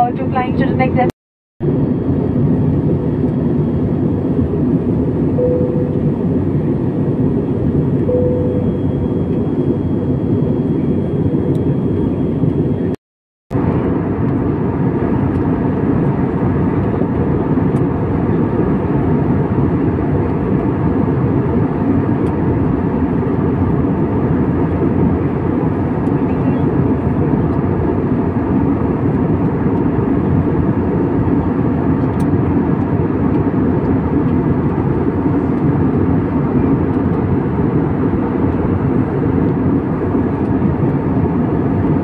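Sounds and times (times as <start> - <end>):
jet airliner cabin noise: 0.0 - 42.0.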